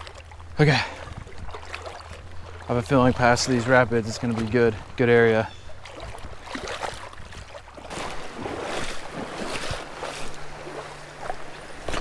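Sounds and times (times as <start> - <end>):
creek water splashing: 0.0 - 12.0
wind buffeting microphone: 0.9 - 12.0.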